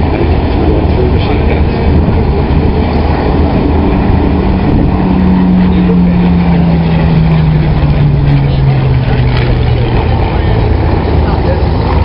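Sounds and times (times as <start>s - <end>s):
propeller aircraft engine flying past: 0.0s - 12.0s.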